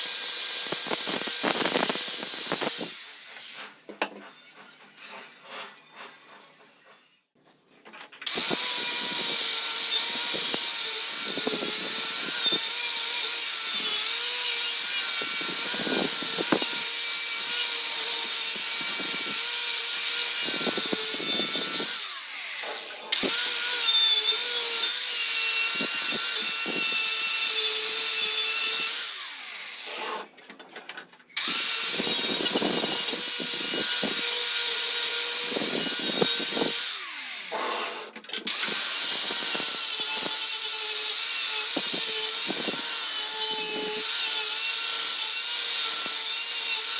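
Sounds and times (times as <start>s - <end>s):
angle grinder grinding steel: 0.0s - 7.3s, 8.2s - 30.4s, 31.3s - 46.9s.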